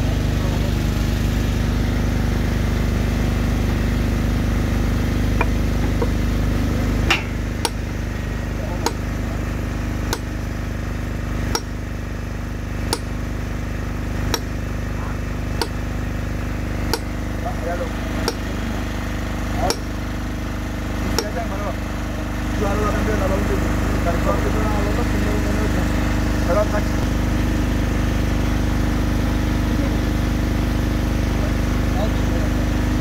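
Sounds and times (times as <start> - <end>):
engine running steadily: 0.0 - 33.0.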